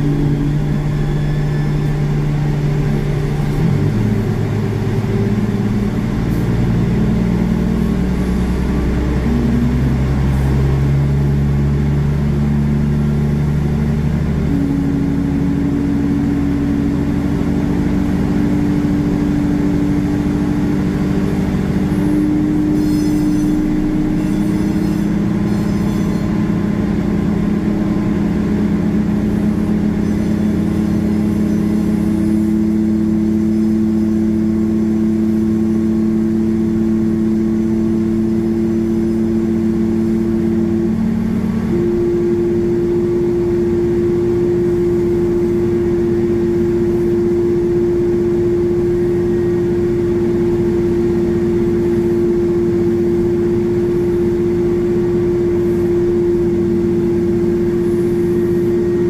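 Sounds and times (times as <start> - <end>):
tug engine humming: 0.0 - 59.0.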